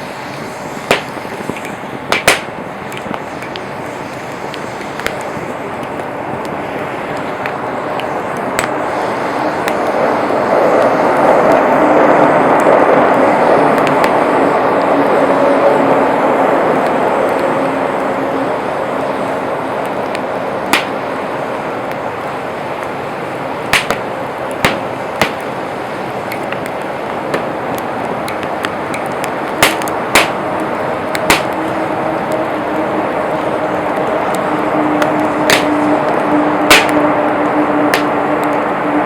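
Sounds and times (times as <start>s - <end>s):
burning wood crackling pops: 0.0s - 15.0s, 16.2s - 38.8s
campfire hissing: 0.0s - 39.0s.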